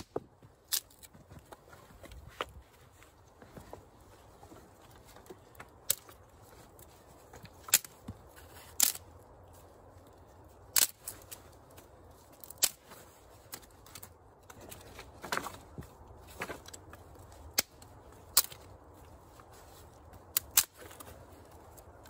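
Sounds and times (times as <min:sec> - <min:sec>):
dry sticks snapping: 0:00.0 - 0:01.2, 0:04.9 - 0:22.0.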